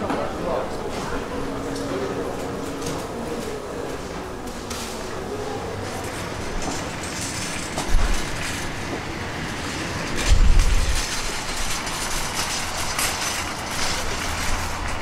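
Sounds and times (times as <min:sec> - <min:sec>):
escalator rumbling and clattering: 0:00.0 - 0:15.0.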